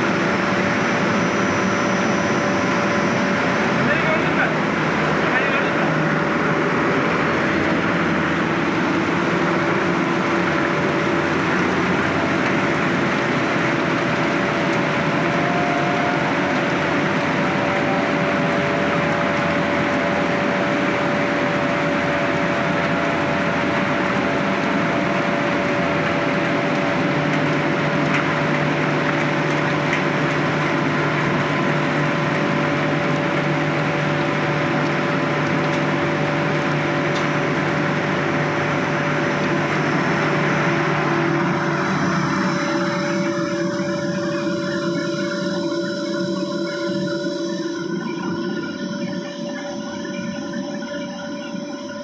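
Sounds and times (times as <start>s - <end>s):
heavy rain on pavement and metal: 0.0s - 47.0s
machine hum: 0.0s - 52.0s.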